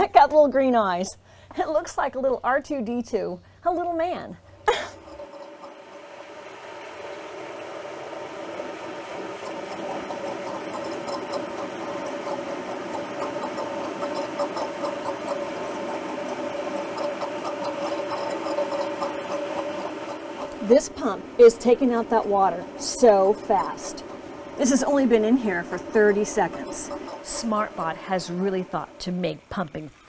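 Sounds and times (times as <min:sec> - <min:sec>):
submersible pump motor hum: 0:03.7 - 0:30.0.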